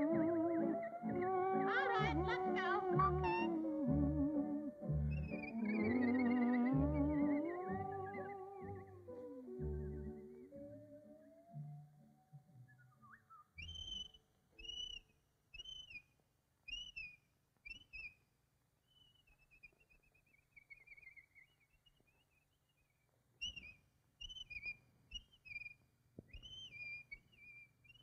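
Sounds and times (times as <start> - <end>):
whistled cartoon bird chirps: 0.0 - 11.6, 12.6 - 16.1, 16.7 - 18.2, 18.9 - 22.5, 23.4 - 28.0
whistled wavering warble: 0.0 - 11.8, 12.6 - 16.0, 16.7 - 18.2, 18.9 - 22.3, 23.4 - 28.0.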